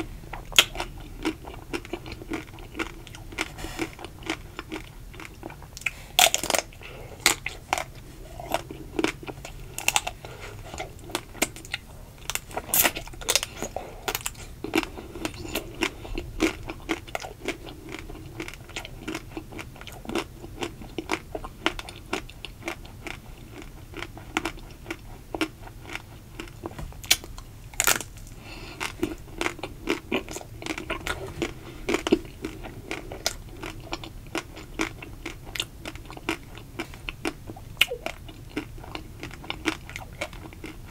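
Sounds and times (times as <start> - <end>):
chewing and mouth sounds: 0.0 - 40.9.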